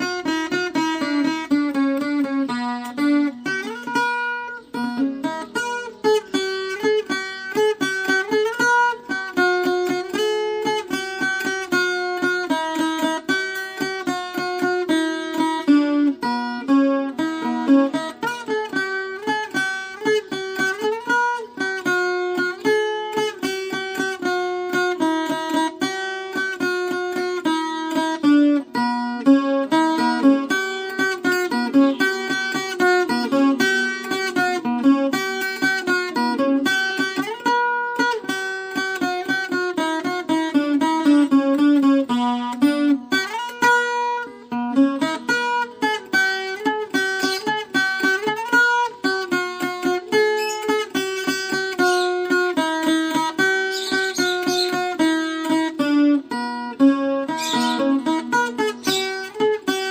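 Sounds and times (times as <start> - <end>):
plucked string guitar melody: 0.0 - 59.9.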